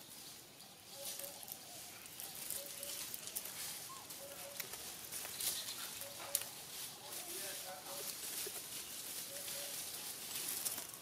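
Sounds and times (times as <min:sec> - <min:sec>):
dry leaves rustling and crackling: 0:00.0 - 0:11.0.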